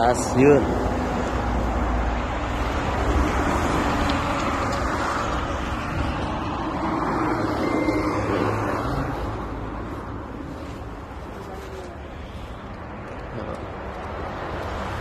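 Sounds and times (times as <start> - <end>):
motor traffic: 0.0 - 15.0.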